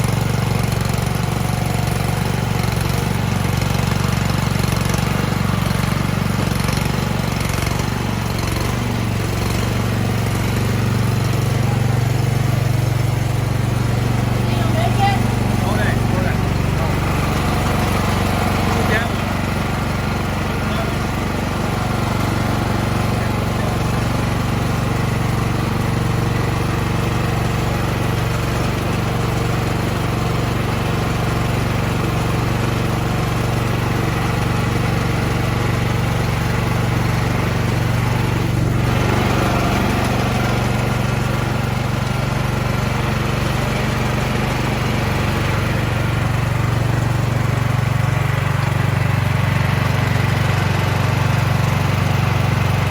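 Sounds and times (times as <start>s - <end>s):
snow blower engine running: 0.0s - 52.9s.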